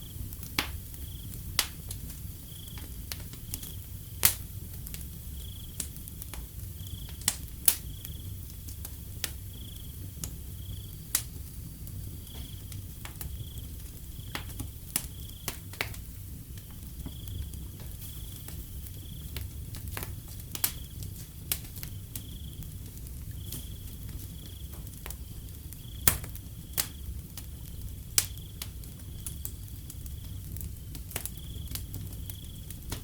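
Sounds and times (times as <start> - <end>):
cricket chirping: 0.0 - 6.0, 6.6 - 33.0
wood fire crackling and popping: 0.0 - 33.0.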